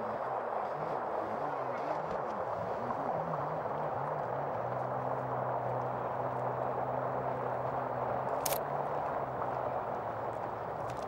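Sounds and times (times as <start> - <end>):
outboard motor humming: 0.0 - 11.0
rush of wind and water: 0.0 - 11.0.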